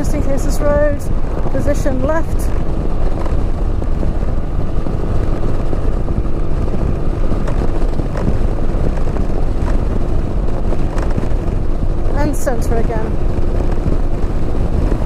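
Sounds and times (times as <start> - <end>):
motorcycle engine humming: 0.0 - 15.0
wind and road noise: 0.0 - 15.0.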